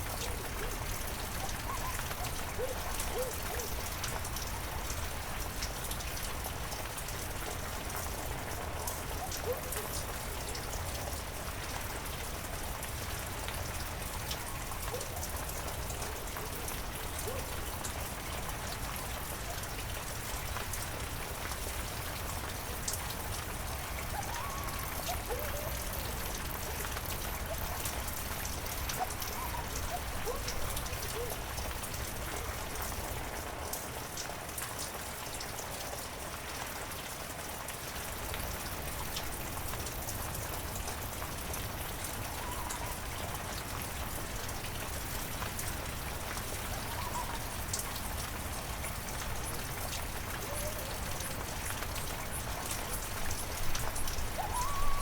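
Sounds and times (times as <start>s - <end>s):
raindrops ticking on leaves: 0.0s - 55.0s.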